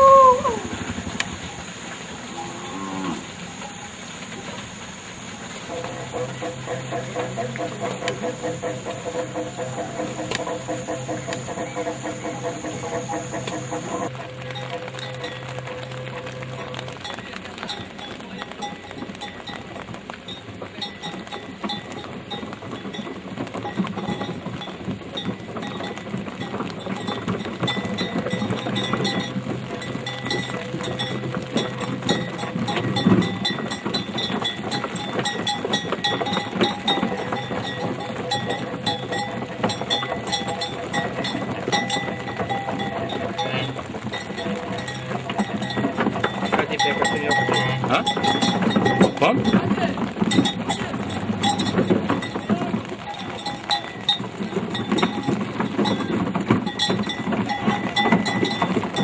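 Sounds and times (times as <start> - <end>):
cowbells clanking: 5.7 - 59.0.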